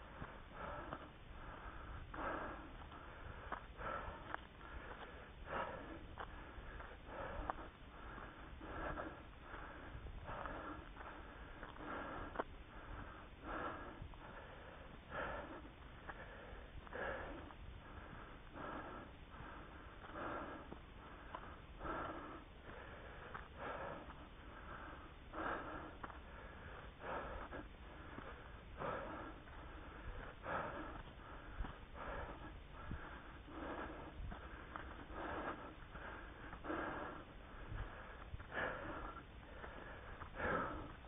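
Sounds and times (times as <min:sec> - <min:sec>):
person breathing hard: 0:00.0 - 0:41.0.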